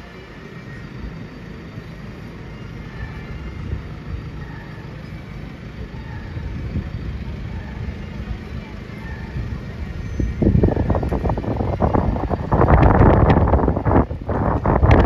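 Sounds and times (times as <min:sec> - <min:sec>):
car engines and tyres at a crawl: 0:00.0 - 0:15.0.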